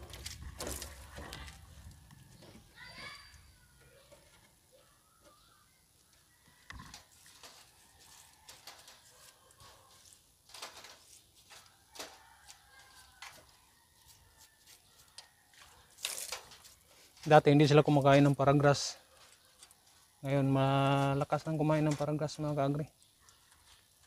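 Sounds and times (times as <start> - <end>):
rabbits crunching grass: 0.0 - 2.7, 6.0 - 24.0.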